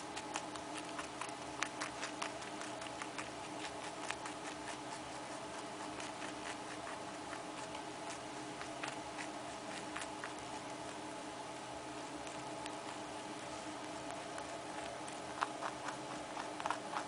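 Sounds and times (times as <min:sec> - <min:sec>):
pet chewing crunchy food: 0:00.0 - 0:17.0
steady hum: 0:00.0 - 0:17.0.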